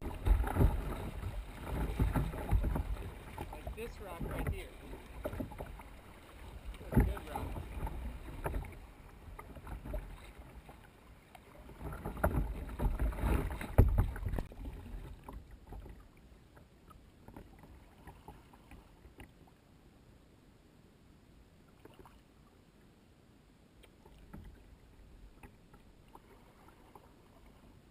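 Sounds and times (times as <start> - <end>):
paddle strokes: 0.0 - 19.6, 23.8 - 27.9
water lapping and dripping: 0.0 - 19.6, 21.7 - 22.6, 23.8 - 27.9
water splashing against kayak: 0.0 - 19.7, 21.6 - 22.9, 23.7 - 27.9.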